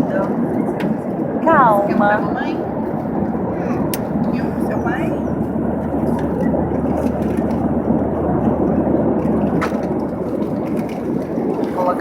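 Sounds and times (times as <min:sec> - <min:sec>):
airliner cabin engine roar: 0:00.0 - 0:12.0.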